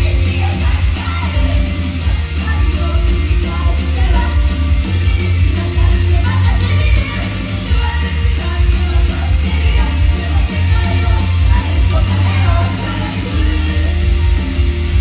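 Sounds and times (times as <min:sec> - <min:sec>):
group singing live: 0:00.0 - 0:15.0
rock backing track with bass: 0:00.0 - 0:15.0.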